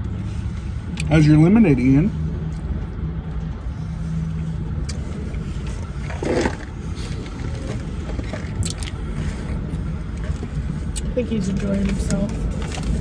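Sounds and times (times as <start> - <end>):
car idling inside cabin: 0.0 - 13.0.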